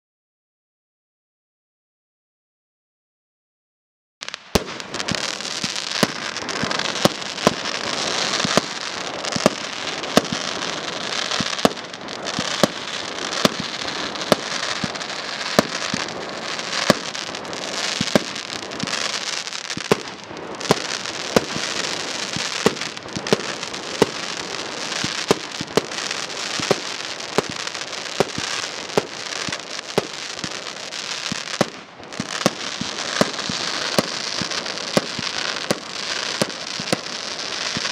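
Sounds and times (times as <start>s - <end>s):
firework bangs: 4.2s - 37.9s
firework crackling: 4.2s - 37.9s.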